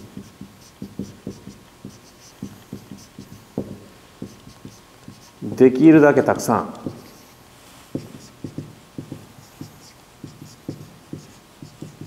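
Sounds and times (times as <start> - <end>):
marker tapping on whiteboard: 0.0 - 5.6, 6.7 - 7.2, 7.9 - 12.0.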